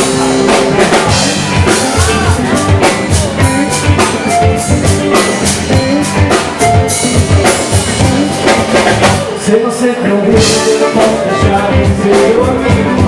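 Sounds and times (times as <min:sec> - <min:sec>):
drum kit beat: 0:00.0 - 0:09.4, 0:10.3 - 0:13.0
guitar: 0:00.0 - 0:13.0.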